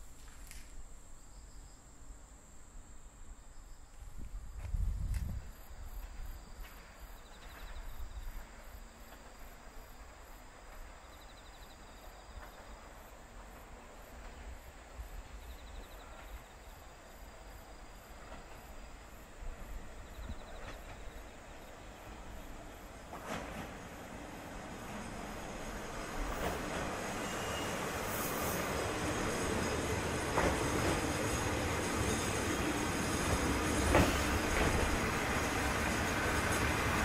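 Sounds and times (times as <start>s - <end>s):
crickets chirping: 0.0s - 37.0s
insect trills: 0.0s - 37.0s
diesel railcar rumble: 3.2s - 37.0s.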